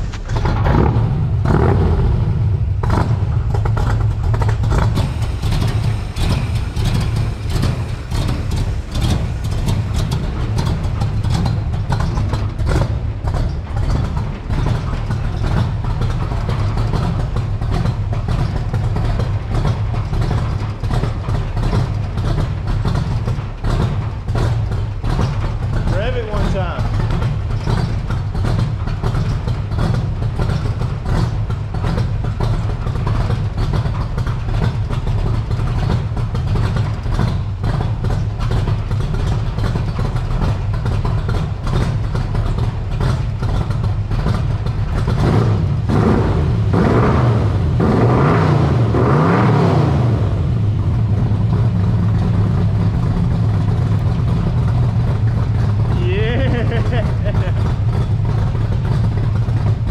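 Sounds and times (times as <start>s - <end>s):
engine running and revving: 0.0s - 59.9s.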